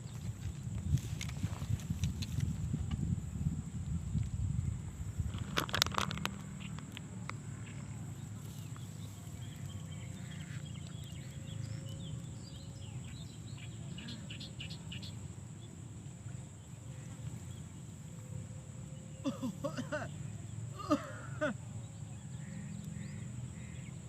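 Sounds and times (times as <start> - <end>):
low steady rumble: 0.0 - 20.9.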